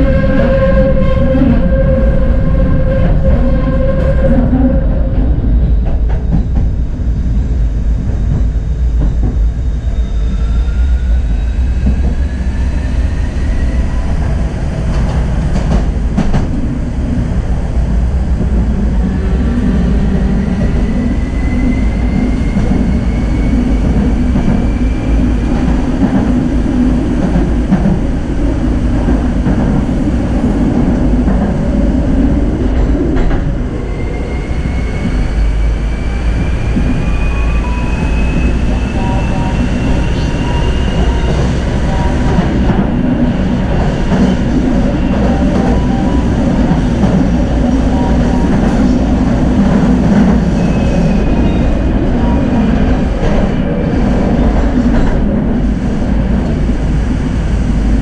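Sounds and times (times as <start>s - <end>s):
tram motor whine: 0.0s - 58.0s
tram wheels rumbling on rail: 0.0s - 58.0s.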